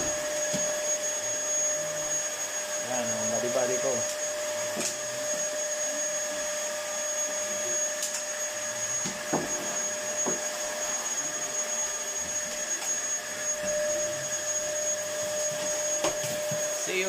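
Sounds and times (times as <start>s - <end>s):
vacuum cleaner motor whining: 0.0s - 17.0s.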